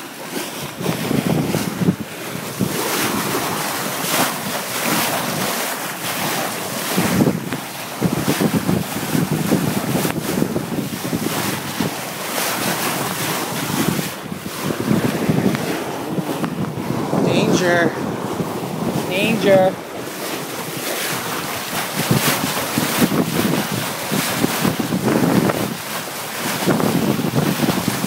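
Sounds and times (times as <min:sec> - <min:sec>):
water splashing along hull: 0:00.0 - 0:28.0
wind buffeting microphone: 0:00.3 - 0:28.0.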